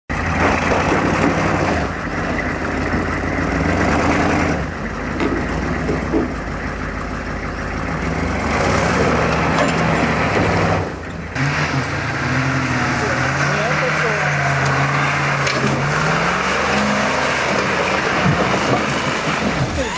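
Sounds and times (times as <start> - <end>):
diesel truck engine running: 0.1 - 19.9.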